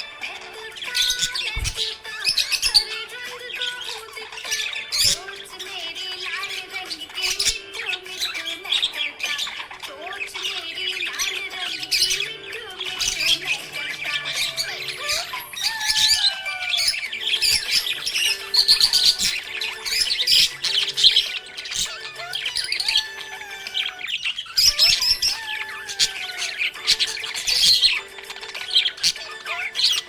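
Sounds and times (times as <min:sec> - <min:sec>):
budgerigars chirping and chattering: 0:00.0 - 0:30.0.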